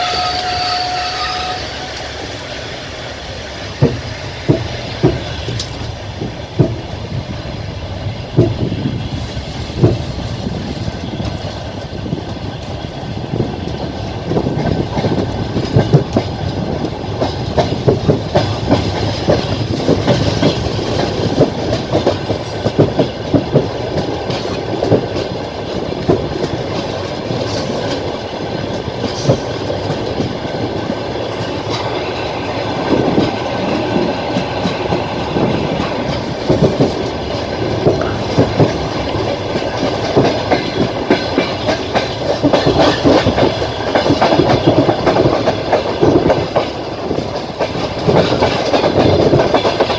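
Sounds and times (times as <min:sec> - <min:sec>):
train rolling rumble: 0:00.0 - 0:49.9
train wheels clacking over rail joints: 0:00.0 - 0:49.9.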